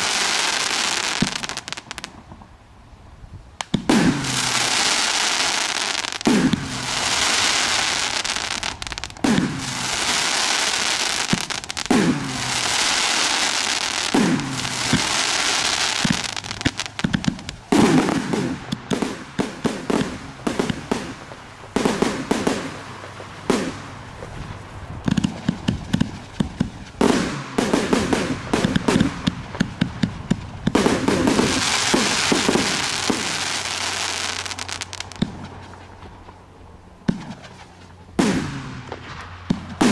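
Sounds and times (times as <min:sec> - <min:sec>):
firework shots firing: 0:00.0 - 0:02.2, 0:03.6 - 0:35.6, 0:37.0 - 0:39.9
crackling hiss of firework bursts: 0:00.0 - 0:02.6, 0:03.6 - 0:39.9.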